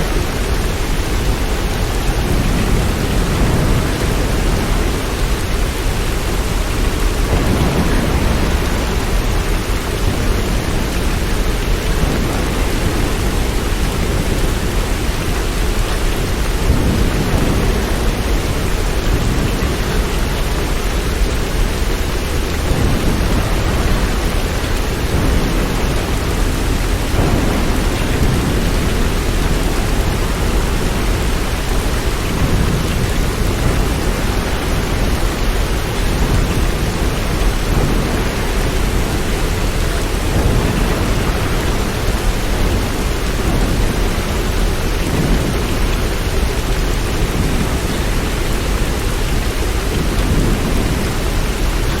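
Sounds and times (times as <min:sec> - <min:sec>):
heavy rain hissing: 0:00.0 - 0:52.0.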